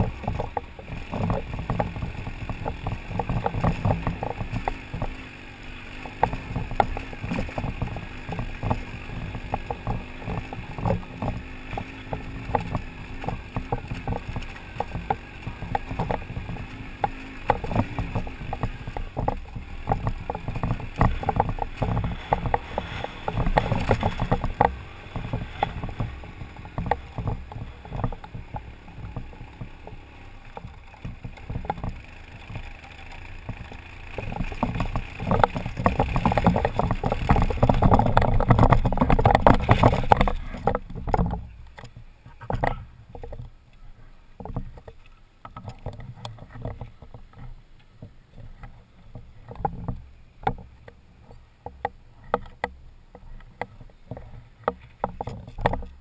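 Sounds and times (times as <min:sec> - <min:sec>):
knocks and rattles: 0:00.0 - 0:43.6, 0:44.3 - 0:56.0
motorcycle engine running: 0:00.0 - 0:56.0.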